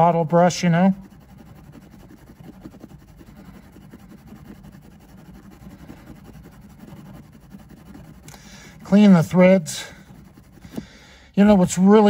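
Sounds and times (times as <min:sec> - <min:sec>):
low steady hum: 0:00.0 - 0:12.0
metal brush scratching in bolt hole: 0:00.0 - 0:12.0.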